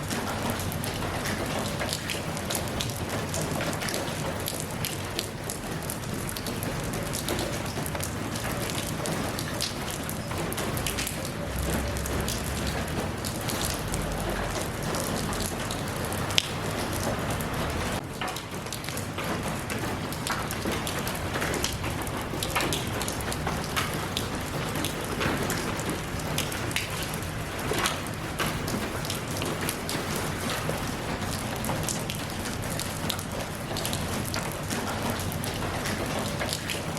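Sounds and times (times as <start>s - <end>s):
sharp ticks of raindrops: 0.0s - 36.9s
steady rain falling: 0.0s - 36.9s.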